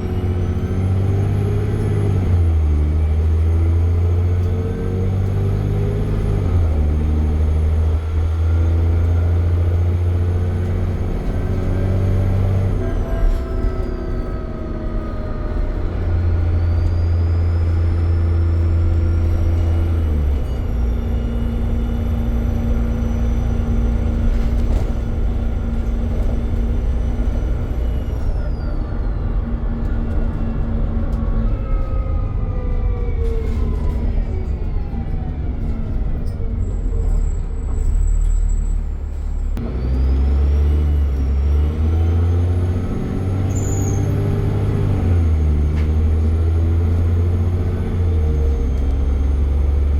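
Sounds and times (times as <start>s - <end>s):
bus engine pulling hard: 0.0s - 49.9s.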